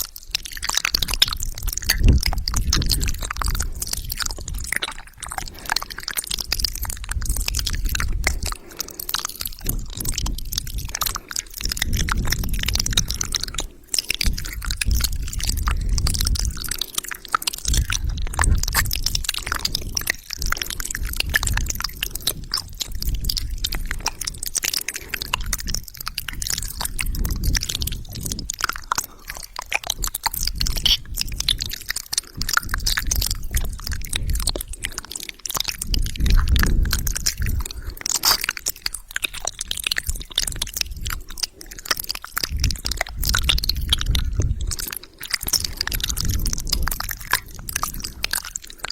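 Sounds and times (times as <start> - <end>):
wet mouth clicks and smacks: 0.0 - 48.9.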